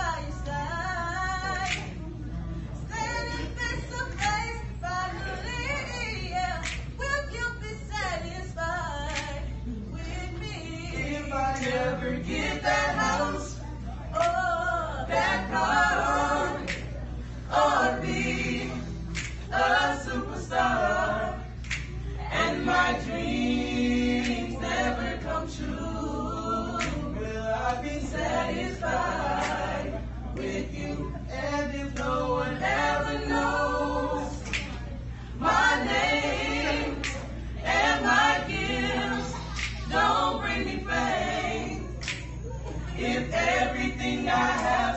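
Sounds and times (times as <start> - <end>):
group singing a cappella: 0.0 - 44.9.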